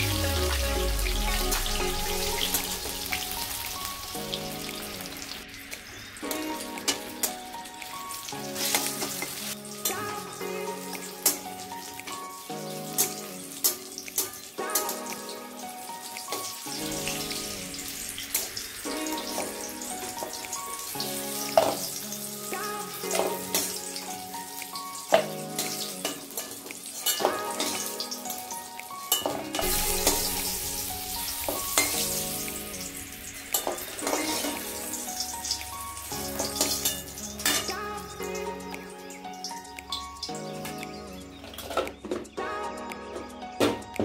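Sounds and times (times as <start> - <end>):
hot oil sizzling: 0.0 - 42.7
background melody: 0.0 - 44.0.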